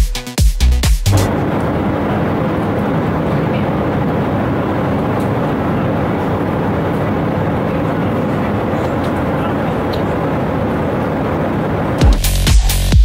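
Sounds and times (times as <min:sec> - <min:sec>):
airliner cabin engine rush: 0:01.1 - 0:13.0.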